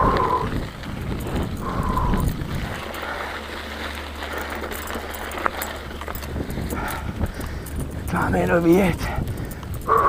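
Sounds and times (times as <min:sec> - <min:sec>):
bicycle rumbling and rattling: 0:00.0 - 0:10.0.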